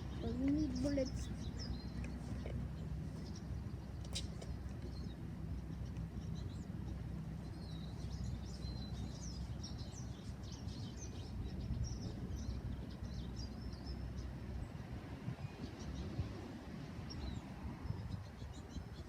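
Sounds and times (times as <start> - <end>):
small birds chirping: 0.0 - 19.0
steady low rumble: 0.0 - 19.0.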